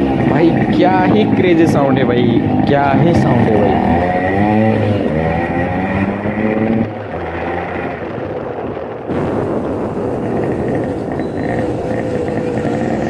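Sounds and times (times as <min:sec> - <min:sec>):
motorcycle engine running: 0:00.0 - 0:13.0
wind noise: 0:00.0 - 0:13.0.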